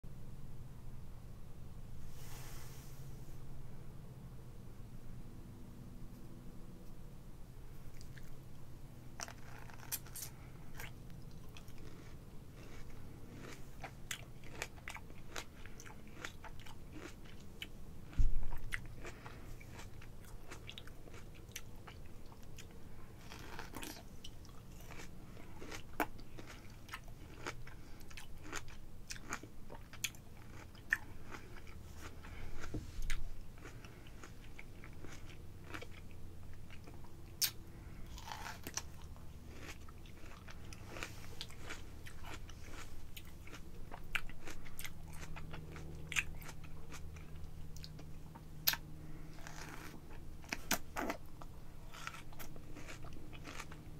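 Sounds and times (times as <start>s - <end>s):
chewing fruit: 7.8s - 53.9s.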